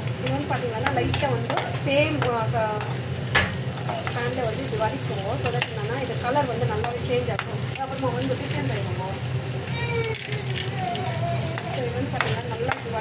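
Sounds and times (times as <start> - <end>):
nuts sizzling in a pan: 0.0 - 13.0.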